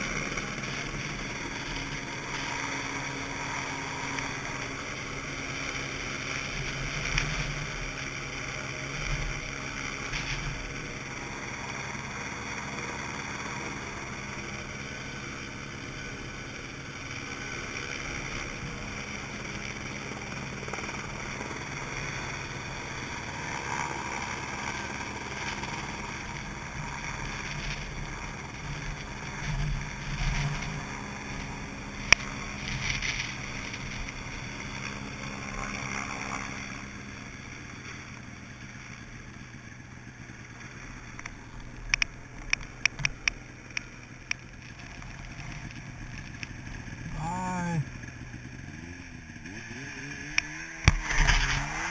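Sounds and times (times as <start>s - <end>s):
snowmobile engine idling: 0.0s - 51.9s.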